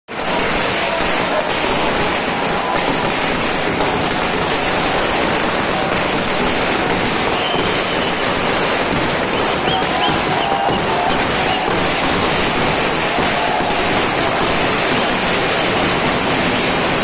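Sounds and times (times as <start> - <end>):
firecrackers crackling: 0.1 - 17.0.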